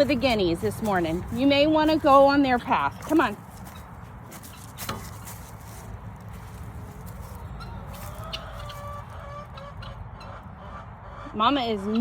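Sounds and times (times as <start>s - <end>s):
poultry clucking: 0.0s - 12.0s.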